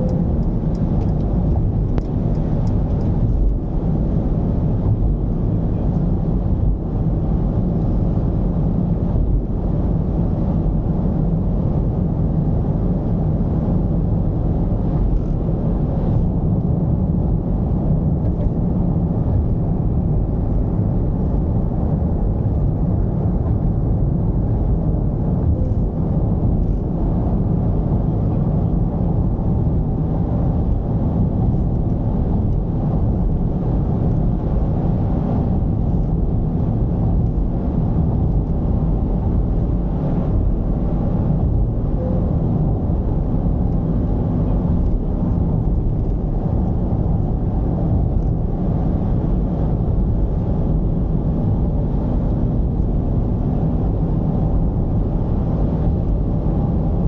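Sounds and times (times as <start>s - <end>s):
diesel van engine drone: 0.0s - 57.0s.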